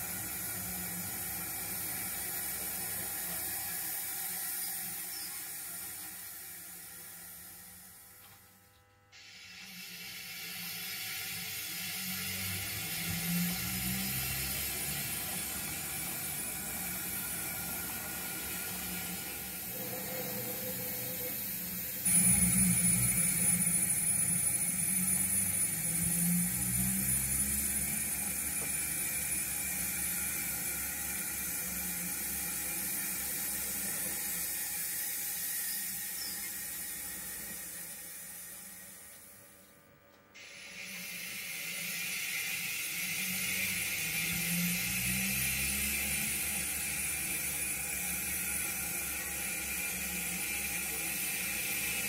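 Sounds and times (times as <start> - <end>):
model train mechanical whir: 0.0 - 8.4, 9.2 - 39.2, 40.4 - 52.0
high whine: 9.2 - 39.6, 40.4 - 52.0.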